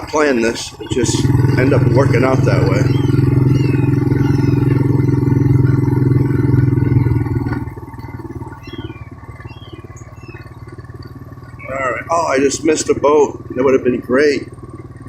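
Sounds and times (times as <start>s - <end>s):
engine running with low drone: 0.0s - 15.0s.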